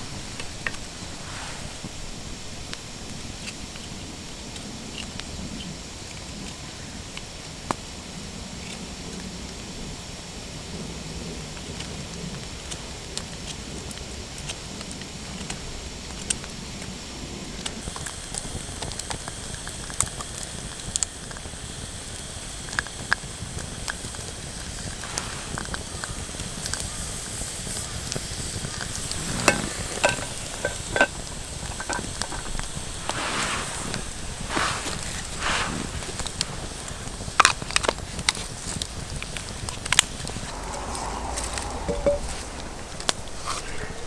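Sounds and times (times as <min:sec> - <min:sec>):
campfire hissing and crackling: 0:00.0 - 0:44.0.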